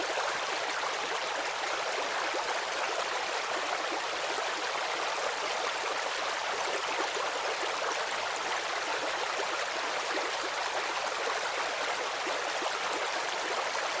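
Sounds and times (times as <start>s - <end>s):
stream running over stones: 0.0s - 14.0s.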